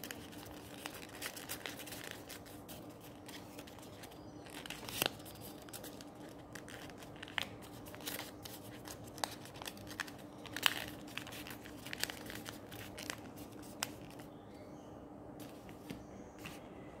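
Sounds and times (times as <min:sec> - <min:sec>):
paper crinkling and crackling: 0:00.0 - 0:14.3.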